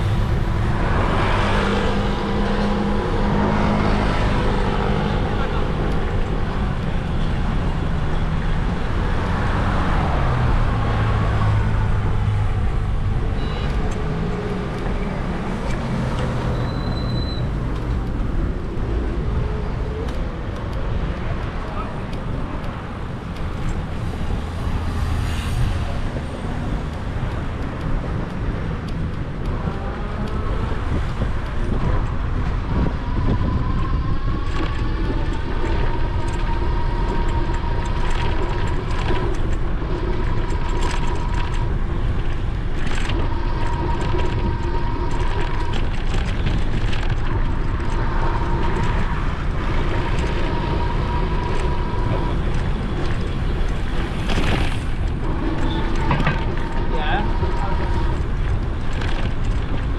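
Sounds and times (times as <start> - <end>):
traffic: 0.0 - 59.9
wind and road rumble: 0.0 - 59.9.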